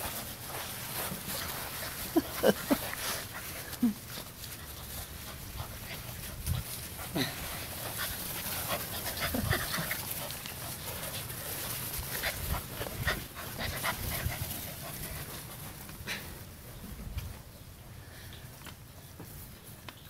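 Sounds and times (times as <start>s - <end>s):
puppies panting: 0.0s - 16.5s.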